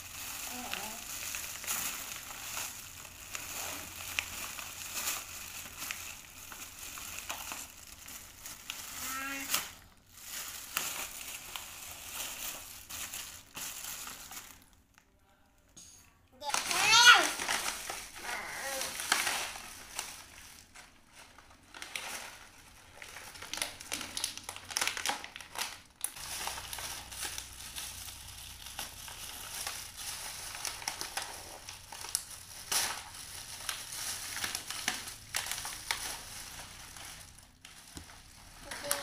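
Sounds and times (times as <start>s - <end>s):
plastic bag crinkling and rustling: 0.0s - 15.0s, 16.4s - 39.0s.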